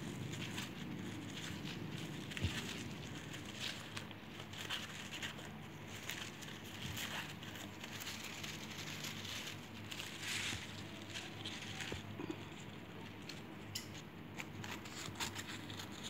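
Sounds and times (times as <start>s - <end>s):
crepe paper rustling: 0.0s - 16.0s.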